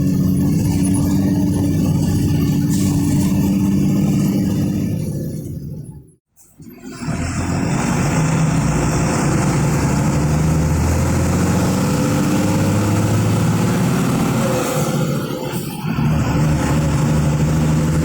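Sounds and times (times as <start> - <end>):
diesel bus engine droning: 0.0 - 18.0.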